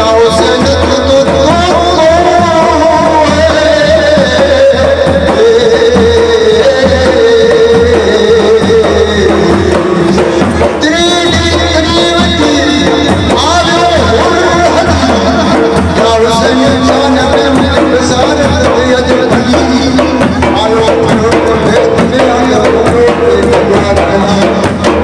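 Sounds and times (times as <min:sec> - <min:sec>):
steady drumming: 0:00.0 - 0:25.0.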